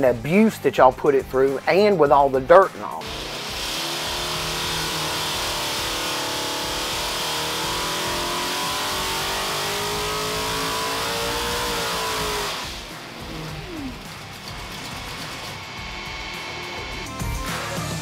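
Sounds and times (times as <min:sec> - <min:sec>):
racing engine running hard: 0:03.0 - 0:18.0.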